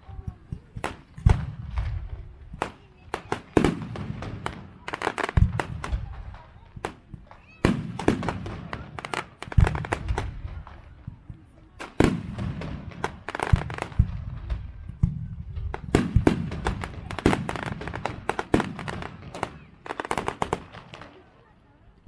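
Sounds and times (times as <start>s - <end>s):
fireworks bursting and crackling: 0.0s - 21.6s.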